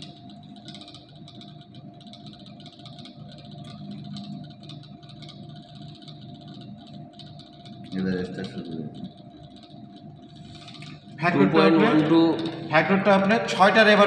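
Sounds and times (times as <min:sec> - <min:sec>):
fast irregular rattling ticking: 0:00.0 - 0:14.0
steady machine hum: 0:00.0 - 0:14.0.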